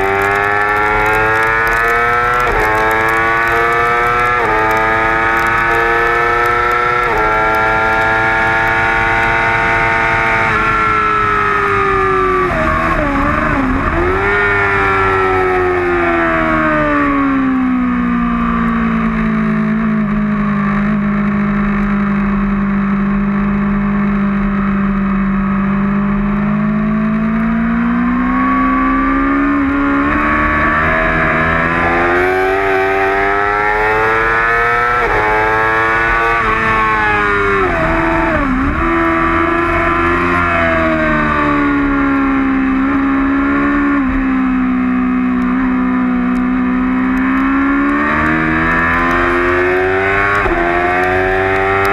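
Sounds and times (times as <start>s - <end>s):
motorcycle engine at racing speed: 0.0s - 51.9s.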